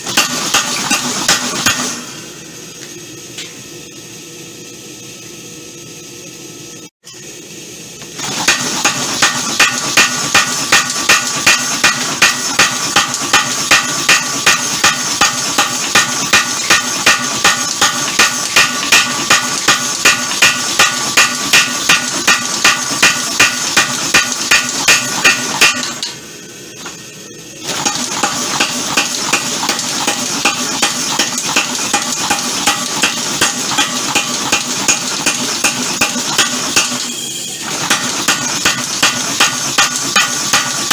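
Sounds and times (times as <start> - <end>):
power hammer striking steel: 0.0 - 2.0, 8.2 - 26.2, 27.6 - 40.9.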